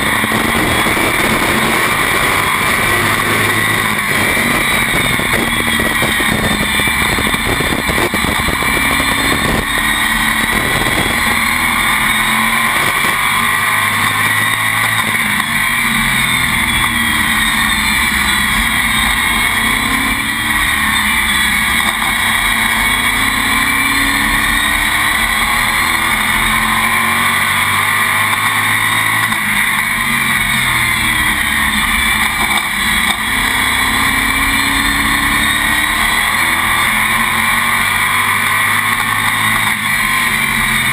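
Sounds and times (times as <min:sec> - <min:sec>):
race car engine at speed: 0:00.0 - 0:40.9.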